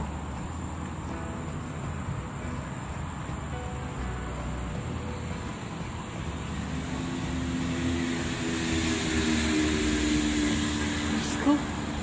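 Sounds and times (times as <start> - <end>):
road traffic rush: 0.0 - 12.0
vehicle engine hum: 0.0 - 12.0.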